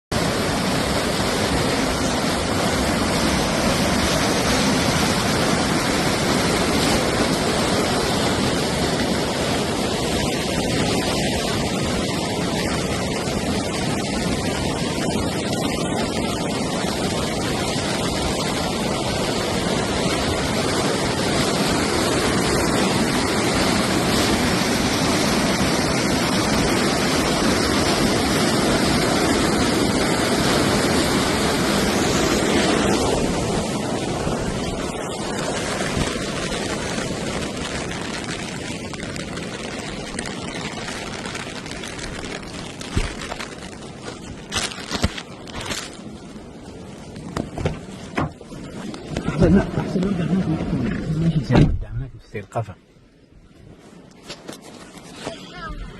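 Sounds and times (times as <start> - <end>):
heavy rain: 0.0 - 52.7, 53.8 - 55.9.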